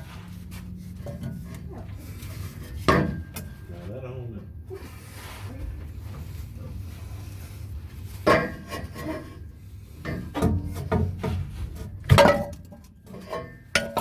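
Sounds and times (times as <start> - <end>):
metal clanking and scraping: 0.0 - 4.0, 5.4 - 14.0
low steady hum: 0.0 - 14.0.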